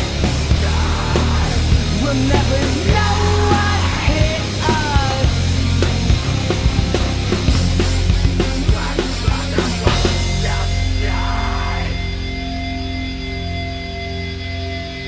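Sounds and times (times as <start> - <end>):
heavy rock band music: 0.0 - 15.0.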